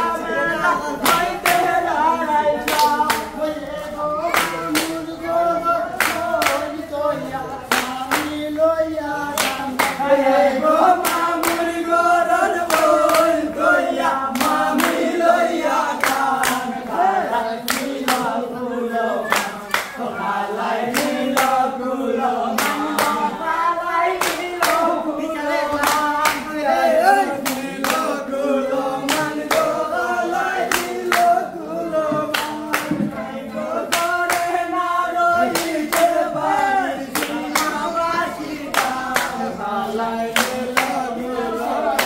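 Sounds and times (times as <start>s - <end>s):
men singing together: 0.0s - 42.0s
rhythmic hand claps: 0.0s - 42.0s.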